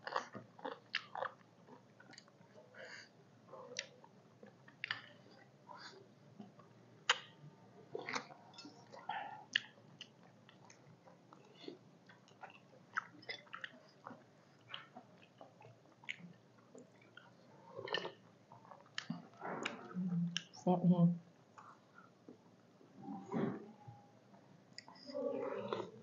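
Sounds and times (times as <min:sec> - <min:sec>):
people chewing chicken: 0:00.0 - 0:20.5, 0:24.8 - 0:26.0.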